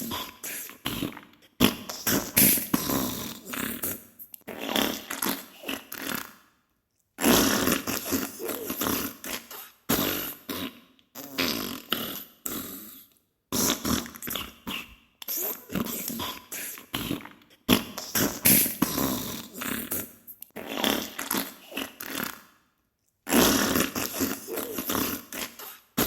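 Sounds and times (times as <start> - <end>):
wet sputtering farts: 0.9 - 6.3, 7.2 - 13.0, 13.6 - 16.4, 17.0 - 22.5, 23.3 - 25.8.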